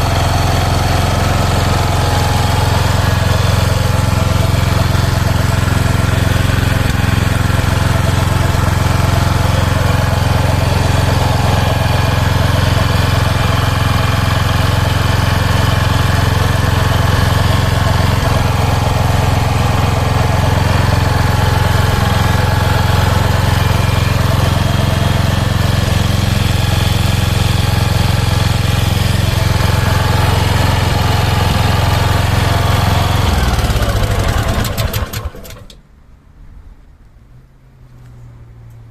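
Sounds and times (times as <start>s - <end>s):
petrol engine running: 0.0s - 35.8s.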